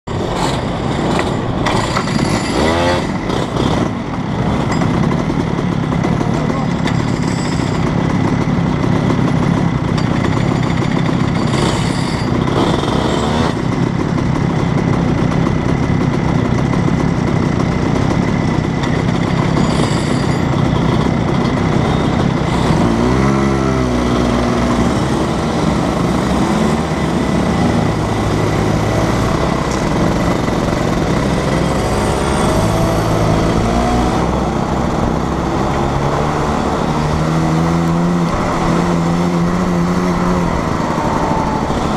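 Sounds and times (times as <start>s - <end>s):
kart engine idling and revving: 0.0s - 41.9s
other kart engines: 0.0s - 41.9s.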